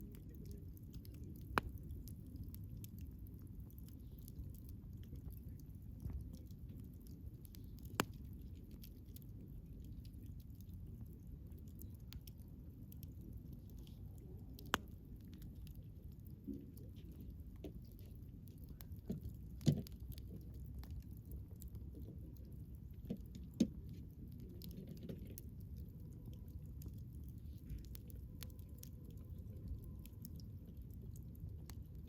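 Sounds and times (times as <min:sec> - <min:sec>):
bonfire crackling: 0:00.0 - 0:32.0
low steady rumble: 0:00.0 - 0:32.0.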